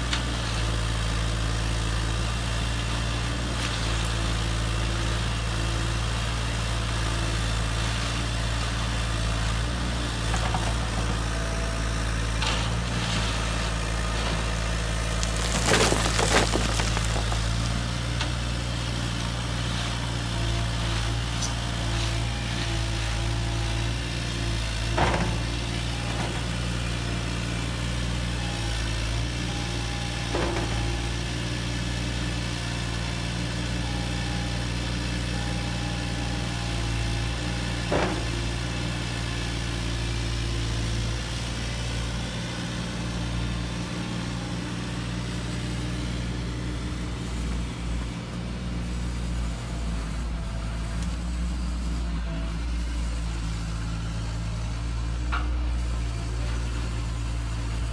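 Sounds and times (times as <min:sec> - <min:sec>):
engine-like hum: 0:00.0 - 0:57.9.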